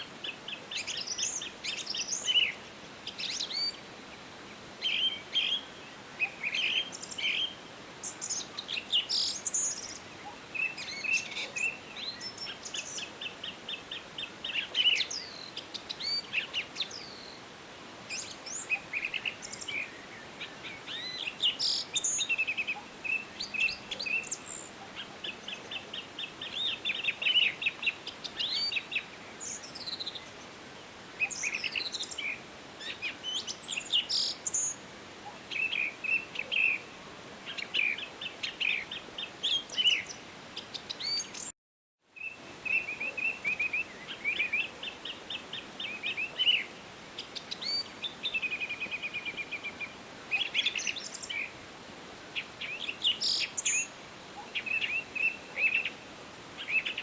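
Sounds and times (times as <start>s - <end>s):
songbirds singing: 0.0s - 41.5s, 42.1s - 57.0s
faint steady hiss: 0.0s - 57.0s.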